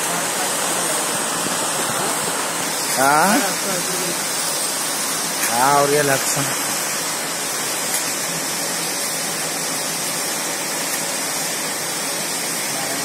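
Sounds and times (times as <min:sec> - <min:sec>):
rushing outdoor background hiss: 0:00.0 - 0:13.0.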